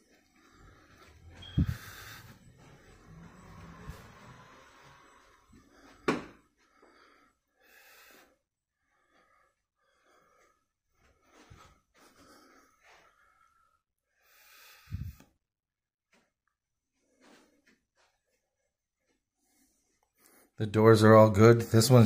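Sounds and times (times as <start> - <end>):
soft breathing: 0.0 - 15.4, 16.1 - 20.6.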